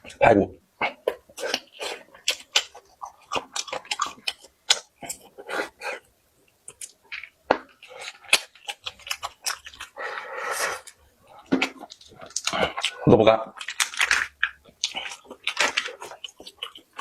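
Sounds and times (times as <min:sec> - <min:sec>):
person chewing crunchy food: 0:00.8 - 0:17.0.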